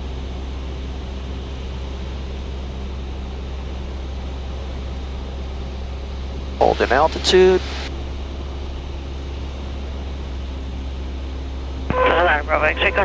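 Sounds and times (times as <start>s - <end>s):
airplane engine droning in cabin: 0.0s - 13.0s.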